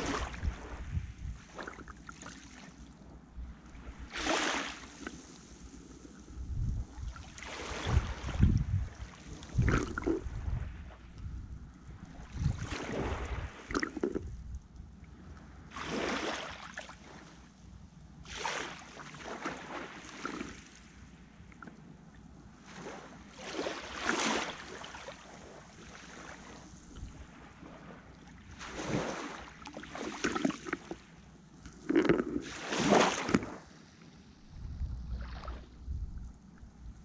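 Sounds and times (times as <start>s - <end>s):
small waves lapping at shore: 0.0s - 14.3s, 14.9s - 37.0s.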